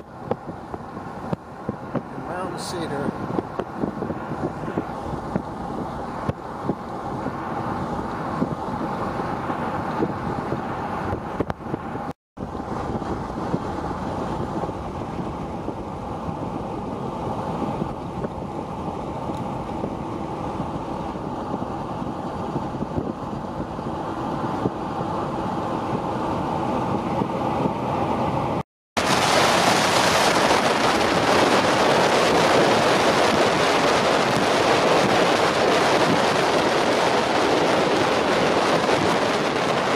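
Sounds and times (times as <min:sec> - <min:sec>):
vehicle road and engine noise: 0:00.0 - 0:39.9
wind noise on microphone: 0:00.0 - 0:39.9.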